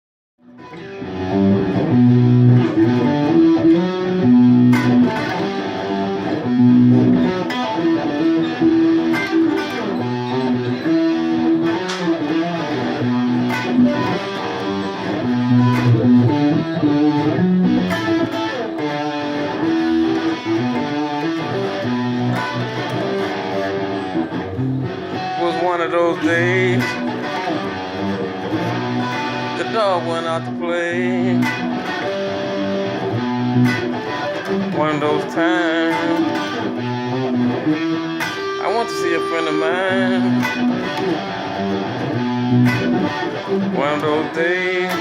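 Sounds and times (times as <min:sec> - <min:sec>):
guitar playing chords: 0:00.4 - 0:45.0.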